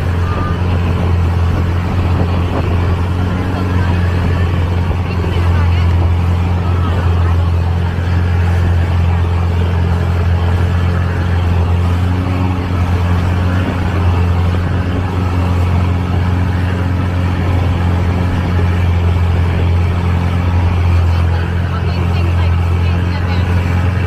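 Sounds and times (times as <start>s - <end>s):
boat engine drone: 0.0s - 24.0s.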